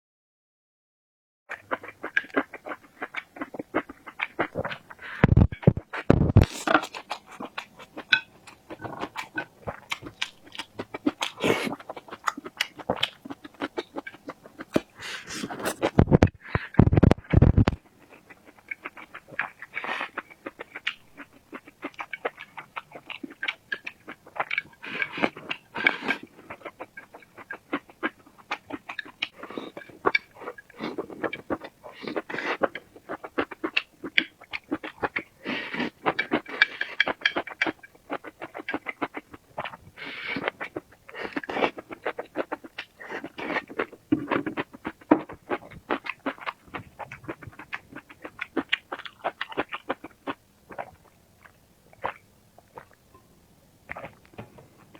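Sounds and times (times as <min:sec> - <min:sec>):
chewing mouth clicks and smacking: 0:01.5 - 0:16.0, 0:16.8 - 0:53.0.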